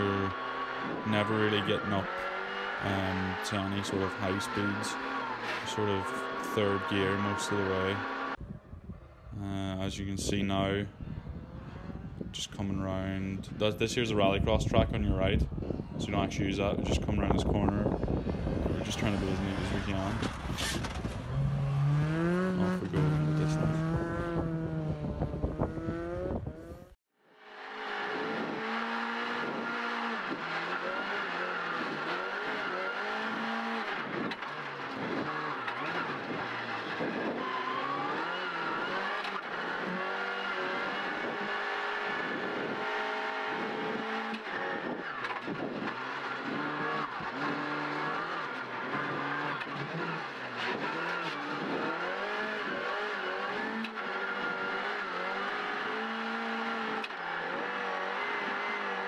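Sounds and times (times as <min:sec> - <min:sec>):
car engine accelerating and shifting: 0:00.0 - 0:08.4, 0:15.0 - 0:59.0.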